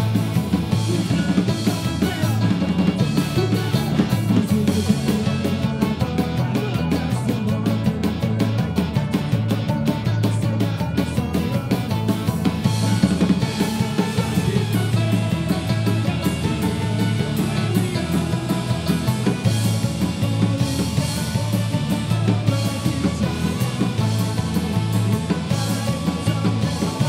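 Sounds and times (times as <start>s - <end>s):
drum kit: 0.0s - 27.0s
person singing: 0.0s - 27.0s.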